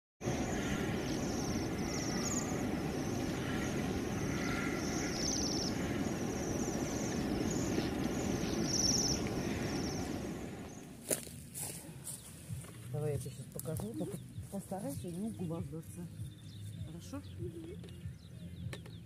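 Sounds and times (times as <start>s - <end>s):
small birds trilling: 0.2s - 11.2s, 12.0s - 19.0s
steady low rumble: 0.2s - 18.7s.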